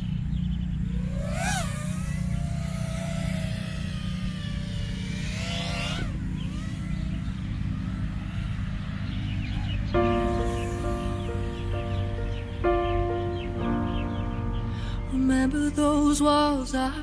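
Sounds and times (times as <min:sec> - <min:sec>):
motor whine: 0:00.0 - 0:16.0
low rumble: 0:00.6 - 0:15.6.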